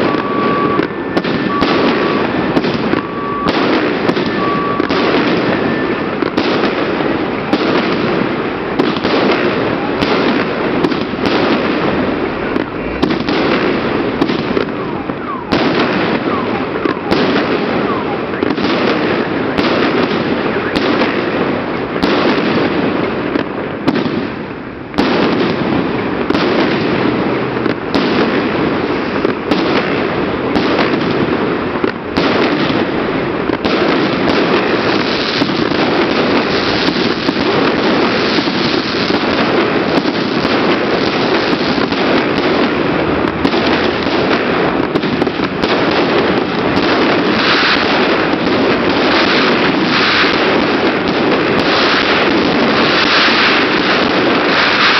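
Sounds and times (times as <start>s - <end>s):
fireworks crackling and popping: 0.0s - 54.9s.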